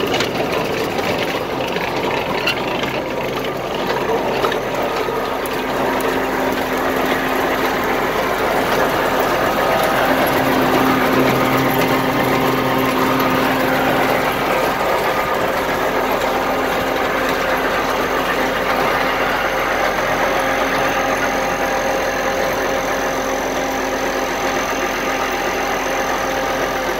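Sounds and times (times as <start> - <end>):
grinder-mixer machinery humming: 0.0 - 26.9.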